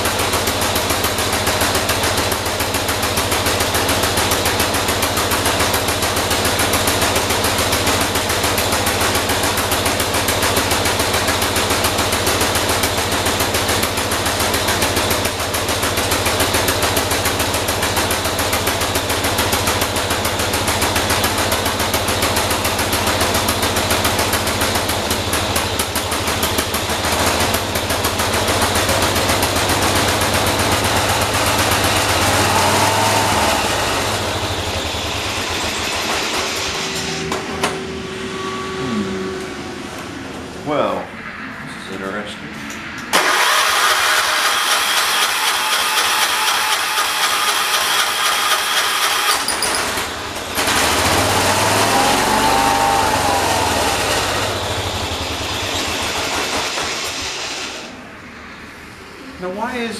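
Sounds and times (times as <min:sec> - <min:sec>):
garden tractor engine running: 0:00.0 - 0:36.7, 0:43.2 - 0:56.4.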